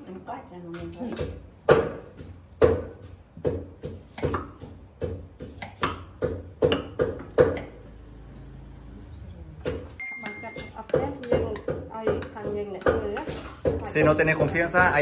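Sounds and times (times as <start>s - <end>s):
knife chopping on board: 0.8s - 7.8s, 9.6s - 15.0s.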